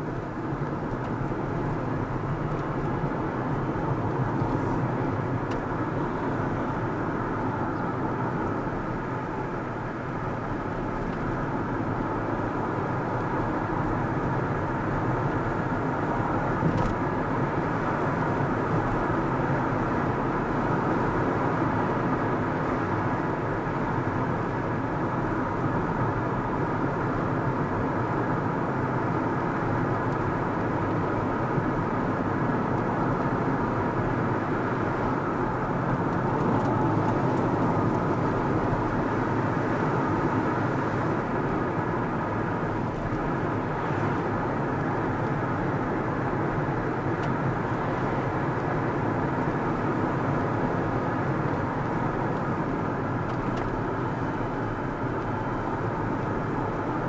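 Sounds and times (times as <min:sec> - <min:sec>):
car tyre and engine noise: 0:00.0 - 0:57.0.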